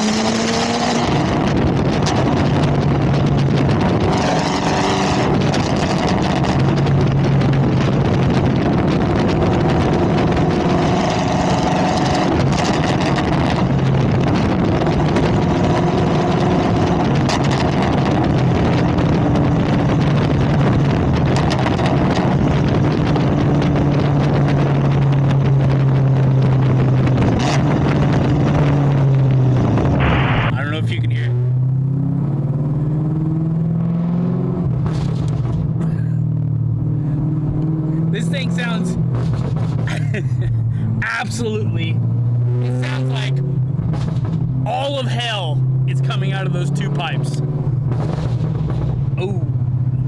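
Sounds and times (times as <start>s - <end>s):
car engine droning at cruise: 0.0s - 50.0s.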